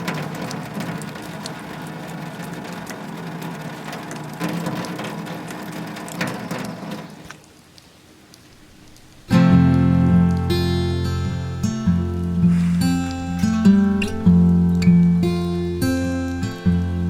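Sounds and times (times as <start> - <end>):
sharp raindrops: 0.0 - 17.0
steady rain falling: 0.0 - 17.0.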